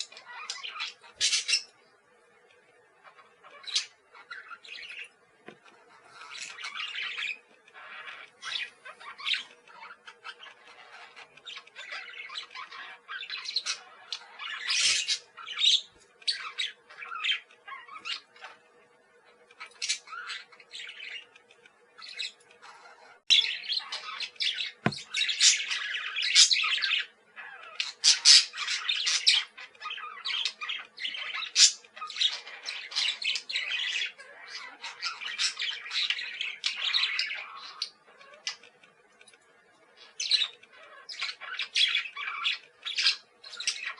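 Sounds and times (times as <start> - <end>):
parakeets chattering and squawking: 0.0 - 43.9.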